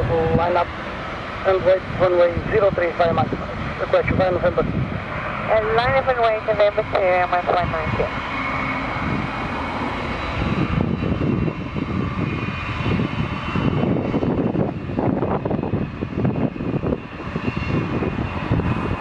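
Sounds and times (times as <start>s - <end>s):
jet engines at takeoff thrust: 0.0s - 19.0s.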